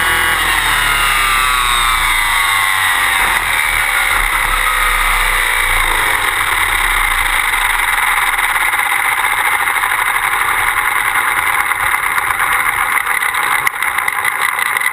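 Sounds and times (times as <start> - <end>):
motor and gears whine: 0.0 - 14.9
rotor rushing noise: 0.0 - 14.9.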